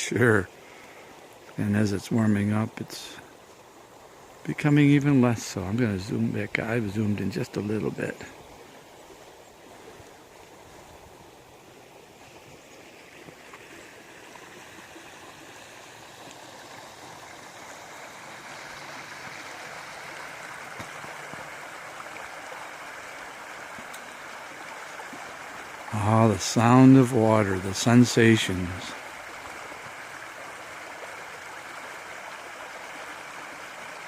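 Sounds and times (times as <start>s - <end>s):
creek rapids rushing and gurgling: 0.0s - 34.0s.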